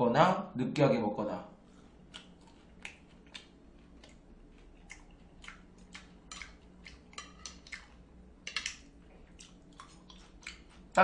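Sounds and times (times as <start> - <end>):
faint low hum: 0.0 - 11.0
wet chewing smacks: 1.8 - 11.0.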